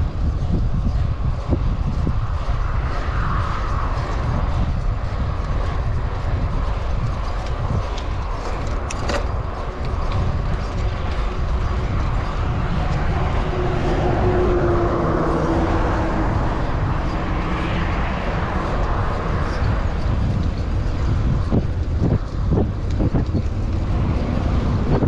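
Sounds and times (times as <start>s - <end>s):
road noise rumble: 0.0s - 25.0s
wind rushing over microphone: 0.0s - 25.0s.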